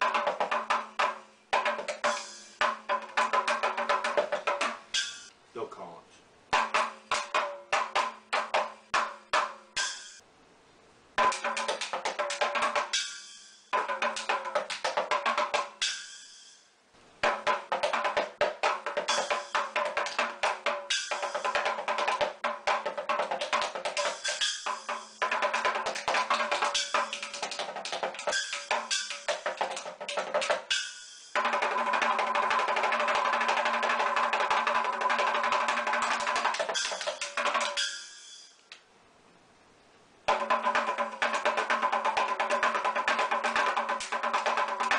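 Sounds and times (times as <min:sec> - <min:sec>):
miniature drum kit played: 0:00.0 - 0:05.3, 0:06.5 - 0:10.2, 0:11.2 - 0:16.5, 0:17.2 - 0:38.6, 0:40.3 - 0:44.9.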